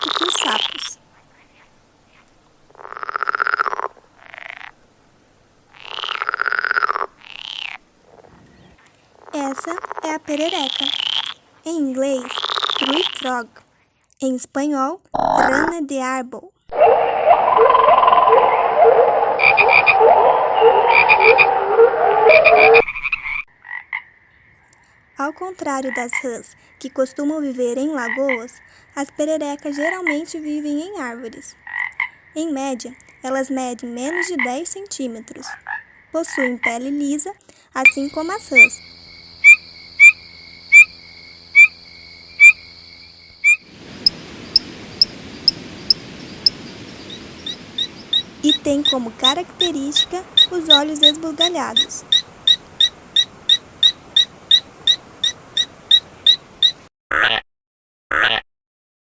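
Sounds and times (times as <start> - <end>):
tree frogs calling: 0.0 - 4.9, 5.6 - 14.1, 15.1 - 15.8, 16.7 - 37.2, 37.8 - 57.3.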